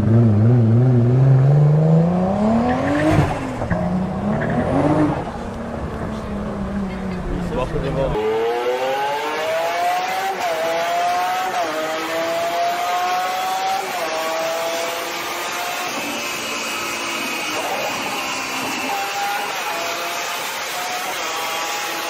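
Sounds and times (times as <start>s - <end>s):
engine revving through gears: 0.0s - 22.0s.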